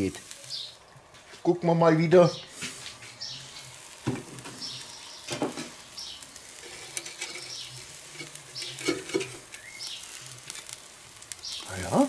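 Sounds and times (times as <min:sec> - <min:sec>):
meat sizzling on grill: 0:00.0 - 0:12.0.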